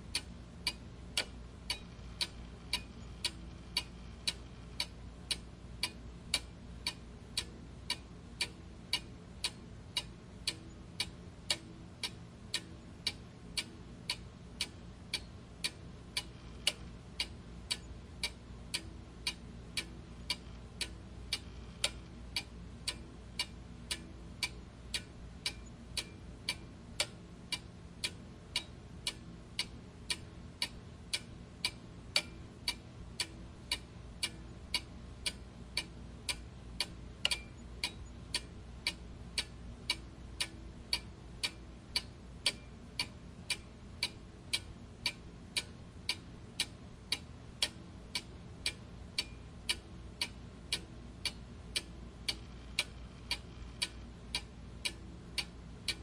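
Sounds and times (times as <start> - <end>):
clock ticking: 0.0 - 56.0
faint low hum: 0.0 - 56.0.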